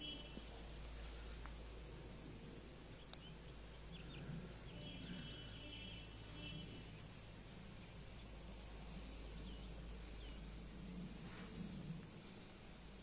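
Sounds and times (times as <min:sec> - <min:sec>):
high trilling birdsong: 0:00.0 - 0:11.6
low background rumble: 0:00.0 - 0:13.0
small birds chirping: 0:00.0 - 0:13.0.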